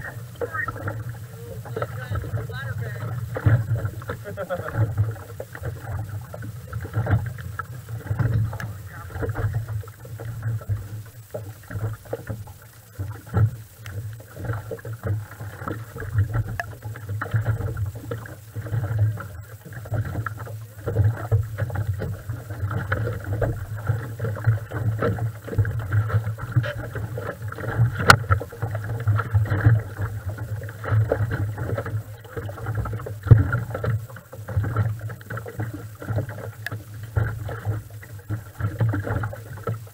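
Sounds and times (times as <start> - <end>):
outboard engine idling: 0.0 - 39.9.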